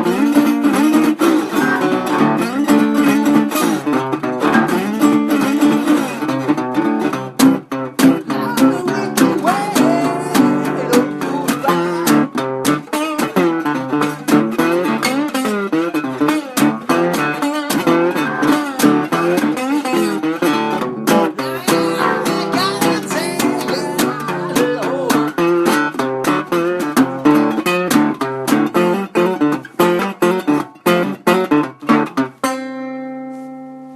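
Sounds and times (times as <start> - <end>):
slide guitar playing blues: 0.0 - 33.8.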